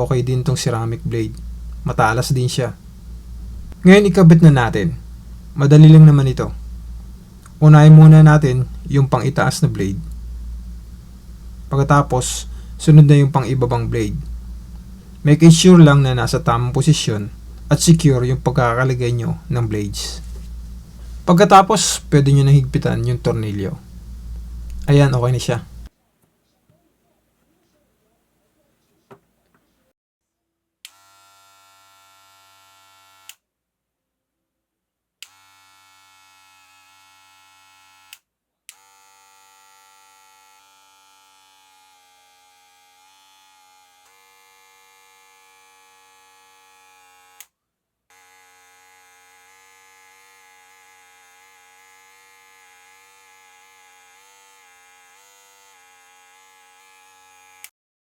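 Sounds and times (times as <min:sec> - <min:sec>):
hair clipper buzzing: 0:00.6 - 0:25.9, 0:30.9 - 0:33.4, 0:35.2 - 0:47.5, 0:48.1 - 0:57.7.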